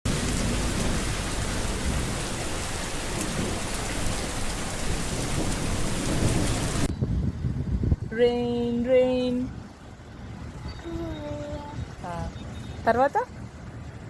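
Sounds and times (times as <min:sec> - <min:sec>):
heavy rain: 0:00.1 - 0:08.1, 0:09.3 - 0:14.0.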